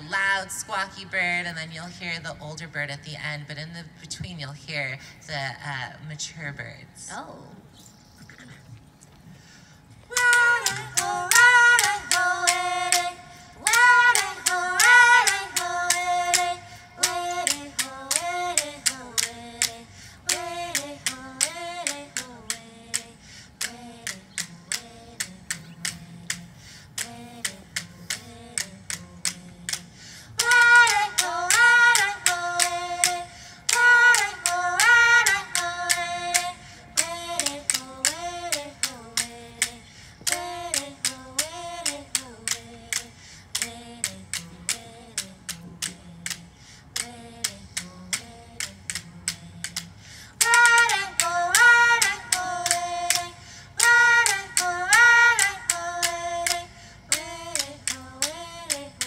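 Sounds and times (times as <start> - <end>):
clicking percussion beat: 10.1 - 59.0
women singing: 10.1 - 59.0.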